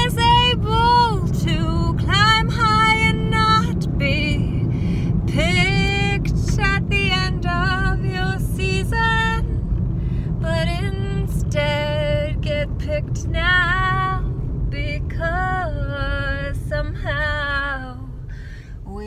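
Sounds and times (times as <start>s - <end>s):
woman singing: 0.0s - 4.6s, 5.3s - 9.6s, 10.4s - 18.2s
car road noise rumble: 0.0s - 19.0s.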